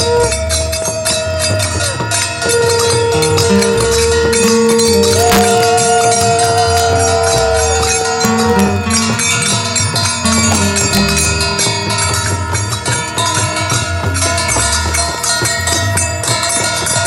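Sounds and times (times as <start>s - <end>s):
long held note: 0.0s - 14.9s
music with jingling bells: 0.0s - 17.0s.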